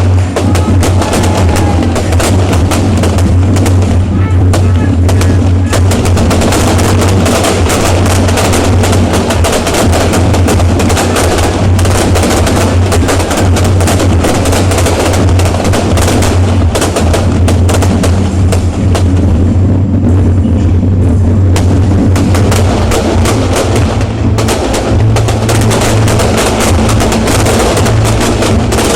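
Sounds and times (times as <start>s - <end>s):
fireworks crackling: 0.0s - 28.9s
steady low rumble: 0.0s - 28.9s.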